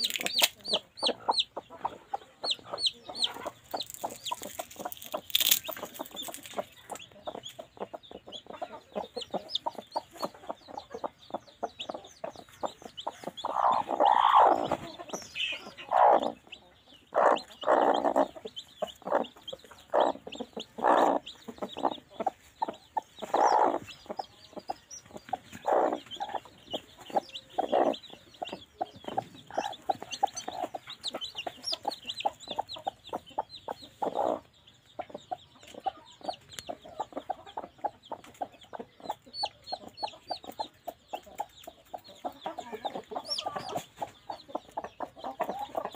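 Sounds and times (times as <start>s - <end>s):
chicks peeping: 0.0s - 45.9s
hens clucking: 0.0s - 45.9s.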